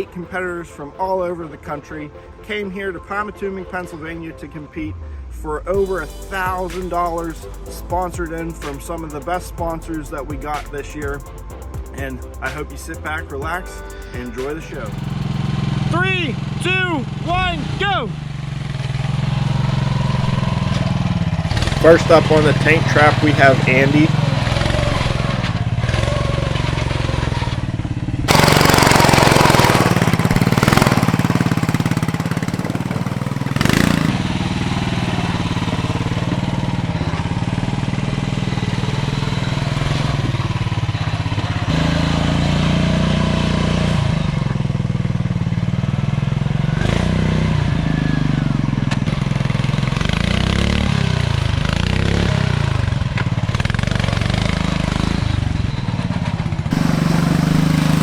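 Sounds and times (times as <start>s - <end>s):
lawn tractor engine revving: 5.8s - 58.0s.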